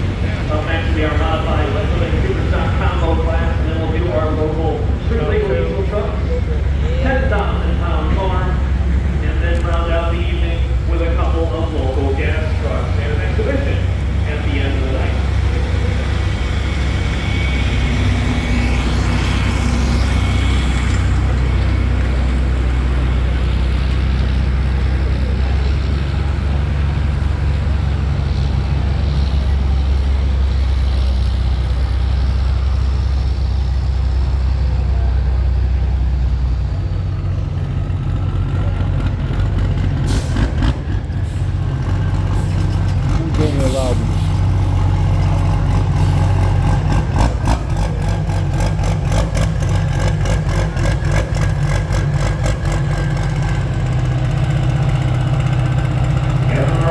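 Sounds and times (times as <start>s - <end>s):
vehicle engine droning: 0.0s - 56.9s.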